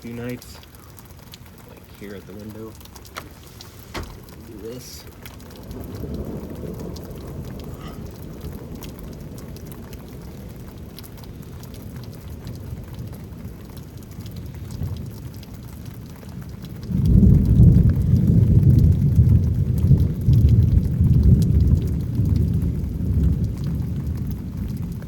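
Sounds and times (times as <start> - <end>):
faint raindrops ticking: 0.0 - 25.0
rainfall: 0.0 - 25.0
thunder rumbling: 0.0 - 25.0.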